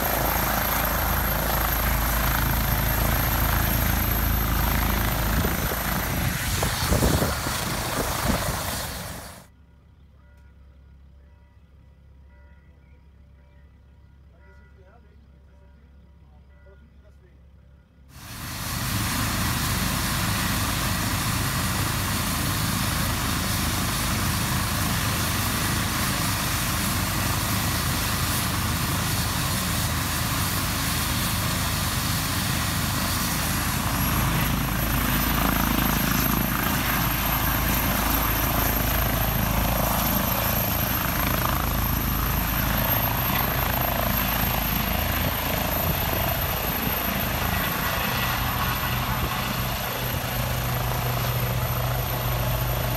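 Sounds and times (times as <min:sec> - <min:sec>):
helicopter turbines and rotors: 0:00.0 - 0:09.5, 0:18.1 - 0:52.9
high turbine whine: 0:00.0 - 0:09.5, 0:18.2 - 0:52.9.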